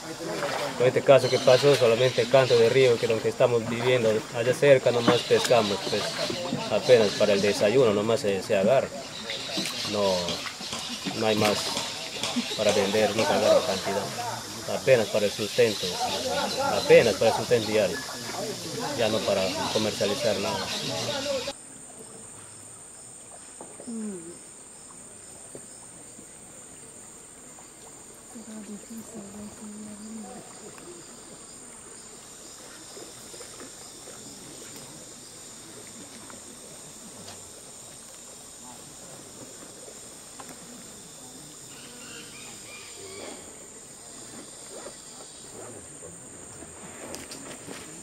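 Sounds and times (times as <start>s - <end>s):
insects calling: 0.0s - 48.0s.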